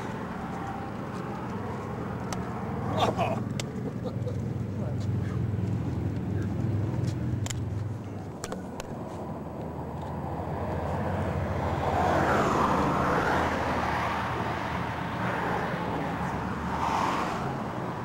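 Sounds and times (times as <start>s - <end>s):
highway traffic rumble: 0.0s - 18.0s.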